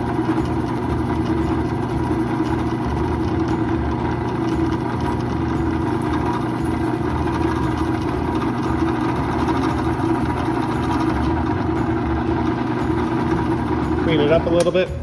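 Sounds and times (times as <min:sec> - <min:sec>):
drill press with wire brush: 0:00.0 - 0:15.0.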